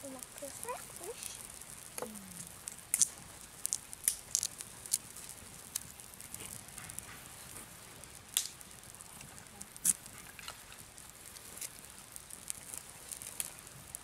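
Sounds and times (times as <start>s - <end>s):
campfire crackling: 0.0s - 14.0s
sharp pops of burning wood: 0.0s - 14.0s.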